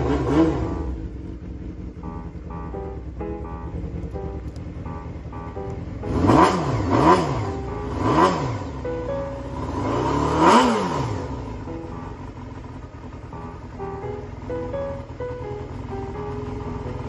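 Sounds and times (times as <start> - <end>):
motorcycle engine revving: 0.0 - 17.0
guitar music: 2.0 - 12.5, 13.2 - 17.0.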